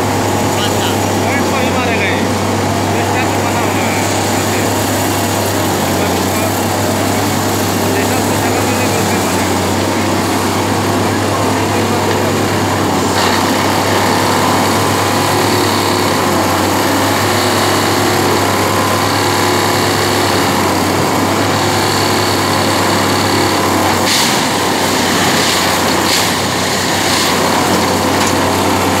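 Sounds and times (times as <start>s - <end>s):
track machine engine hum: 0.0s - 29.0s.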